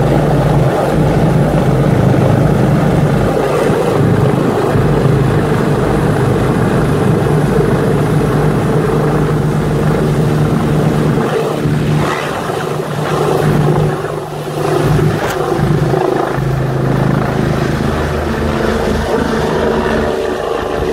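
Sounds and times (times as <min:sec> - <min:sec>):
helicopter hovering overhead: 0:00.0 - 0:20.9.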